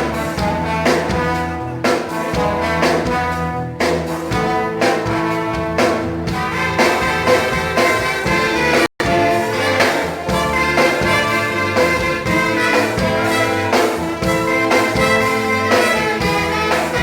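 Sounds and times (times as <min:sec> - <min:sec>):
band with brass playing: 0:00.0 - 0:17.0.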